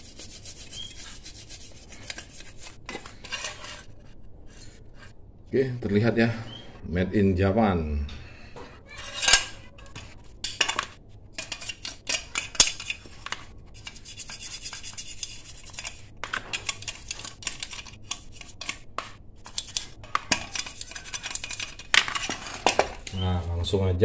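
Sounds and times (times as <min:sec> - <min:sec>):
scratching paint off metal: 0:00.0 - 0:05.1, 0:09.0 - 0:23.2.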